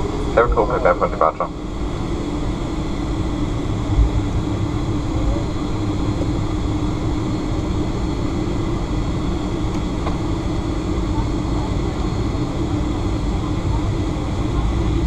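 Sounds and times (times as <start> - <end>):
jet engines humming in cabin: 0.0 - 15.0.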